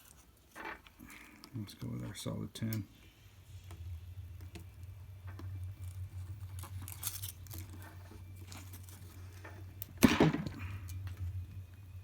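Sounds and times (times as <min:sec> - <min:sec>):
wire strippers clicking and rustling: 0:00.0 - 0:02.9, 0:04.4 - 0:11.8
steady low hum: 0:00.0 - 0:12.0.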